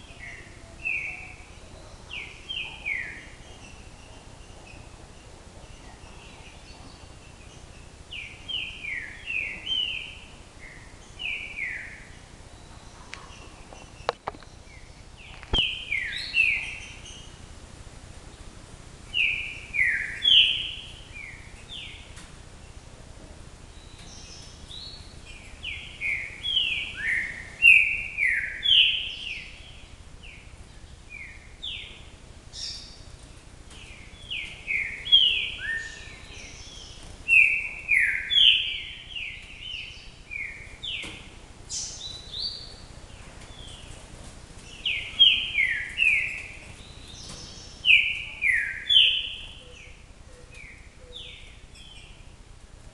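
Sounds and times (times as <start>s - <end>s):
songbird singing: 0.0s - 52.9s.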